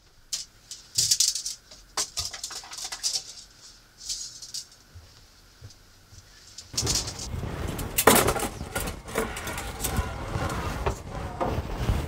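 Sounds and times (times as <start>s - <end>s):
rustling and rattling of objects: 0.0s - 12.0s.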